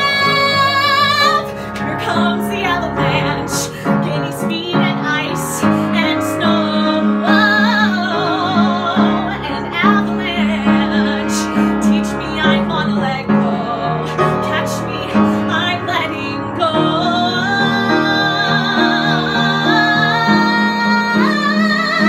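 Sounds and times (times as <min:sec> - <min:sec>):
piano accompaniment: 0:00.0 - 0:22.0
woman singing with vibrato: 0:00.0 - 0:22.0.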